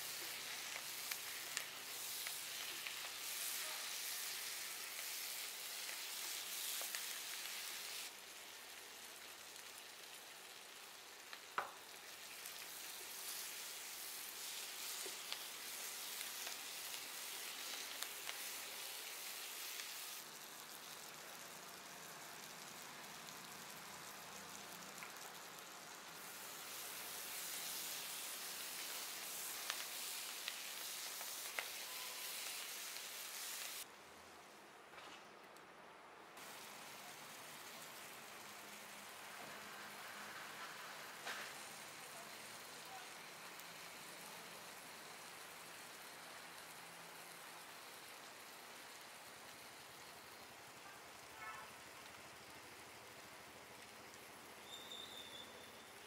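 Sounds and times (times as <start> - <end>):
vegetables sizzling in hot oil: 0.0 - 34.2, 36.4 - 56.0.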